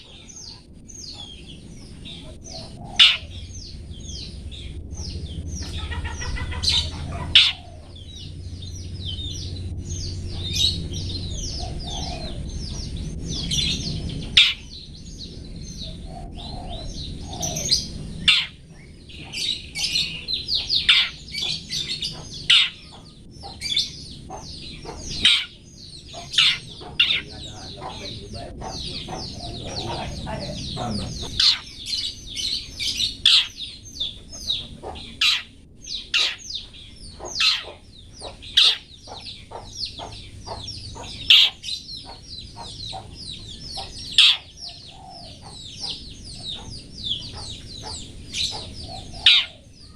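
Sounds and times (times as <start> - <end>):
low hum: 0.0 - 49.2
bird singing chirps: 0.0 - 49.9.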